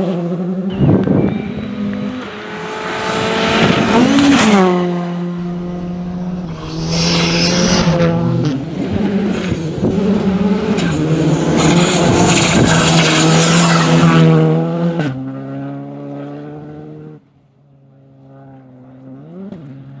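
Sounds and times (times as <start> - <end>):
rally car engine at full throttle: 0.0 - 20.0.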